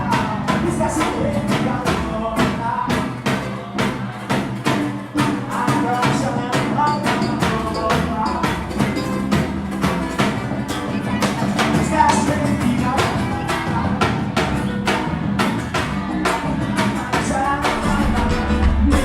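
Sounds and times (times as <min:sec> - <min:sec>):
driving percussion beat: 0:00.0 - 0:19.0
live band music: 0:00.0 - 0:19.0.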